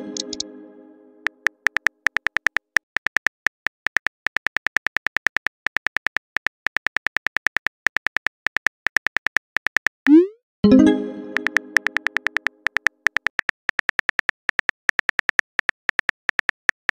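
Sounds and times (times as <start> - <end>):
phone keyboard ticks: 1.4 - 10.0, 11.4 - 16.9.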